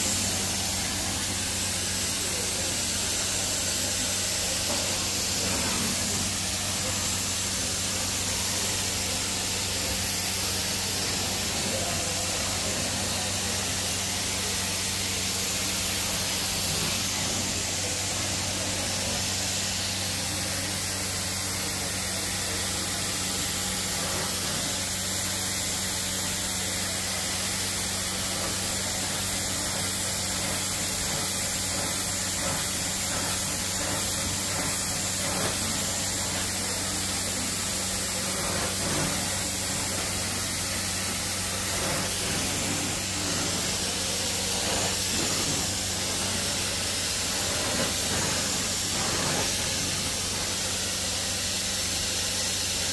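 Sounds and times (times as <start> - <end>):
spray and vacuum suction hiss: 0.0 - 52.9.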